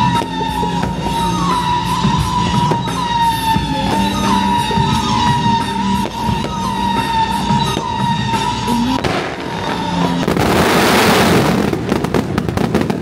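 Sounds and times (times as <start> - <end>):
fireworks rushing hiss: 0.0 - 13.0
music with held notes: 0.0 - 13.0.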